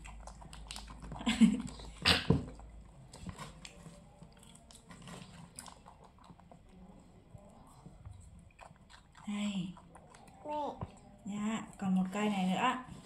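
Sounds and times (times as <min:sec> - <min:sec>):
monkey chewing cucumber: 0:00.0 - 0:11.2.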